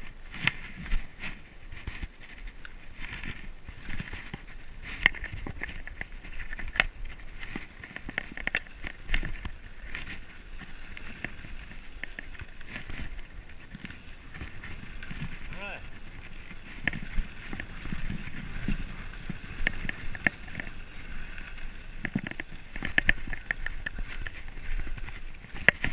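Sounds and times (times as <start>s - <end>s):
bike rattling over bumps: 0.0s - 25.9s
bike tyres rolling on dirt: 0.0s - 25.9s.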